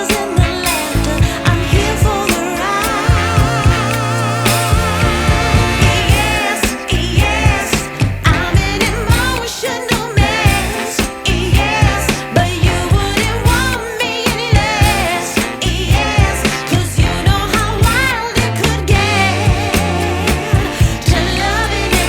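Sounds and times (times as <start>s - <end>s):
drum beat and bass: 0.0s - 22.0s
person singing: 0.0s - 22.0s.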